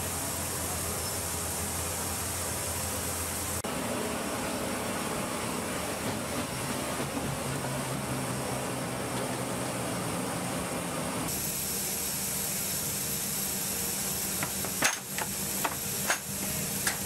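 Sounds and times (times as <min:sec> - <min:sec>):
machinery hum and hiss: 0:00.0 - 0:17.0.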